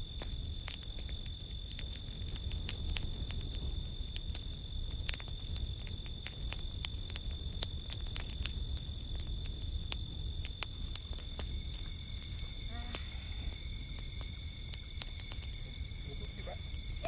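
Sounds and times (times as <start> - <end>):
campfire crackling: 0.0 - 17.0
crickets chirping: 0.0 - 17.0.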